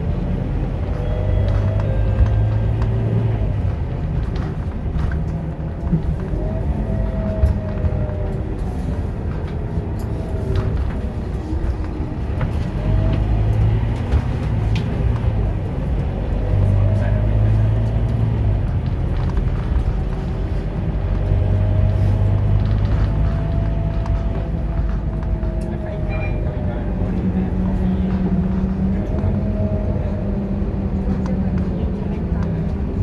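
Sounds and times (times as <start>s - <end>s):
bus diesel engine running: 0.0s - 33.0s.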